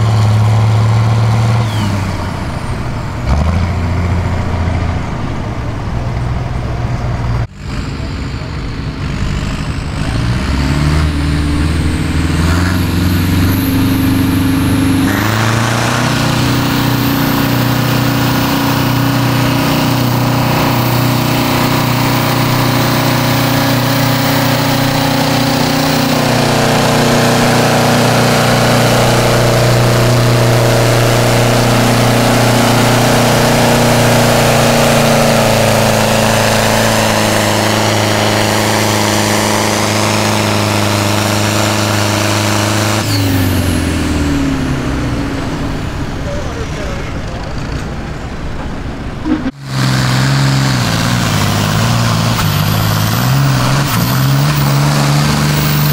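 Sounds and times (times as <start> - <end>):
tractor diesel engine revving: 0.0 - 55.9.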